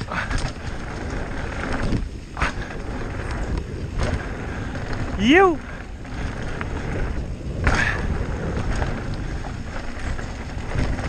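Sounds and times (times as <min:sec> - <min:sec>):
bike tyres rolling on dirt: 0:00.0 - 0:11.0
wind buffeting microphone: 0:00.0 - 0:11.0.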